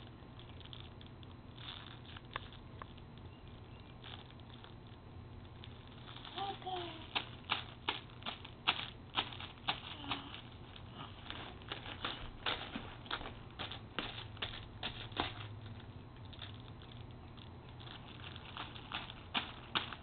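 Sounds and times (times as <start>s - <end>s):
cellophane crinkling: 0.0s - 20.0s.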